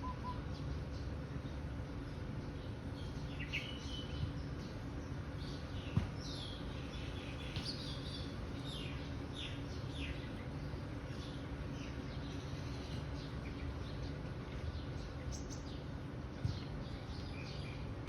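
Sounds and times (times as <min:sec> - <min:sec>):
birds chirping: 0:00.0 - 0:18.0
low background rumble: 0:00.0 - 0:18.0.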